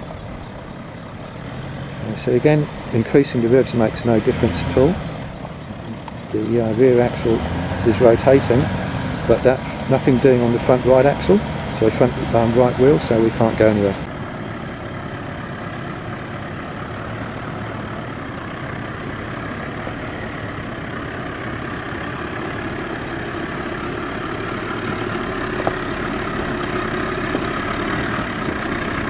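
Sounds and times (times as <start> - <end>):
vehicle engine under load: 0.0 - 29.0.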